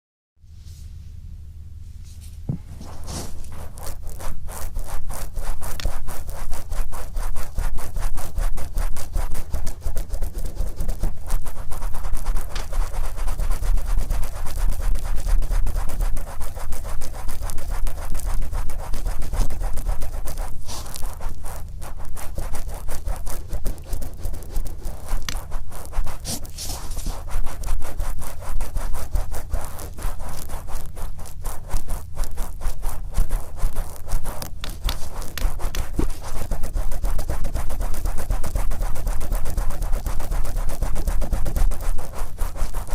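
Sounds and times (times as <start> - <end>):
cotton swab rubbing on microphone: 2.0 - 42.9.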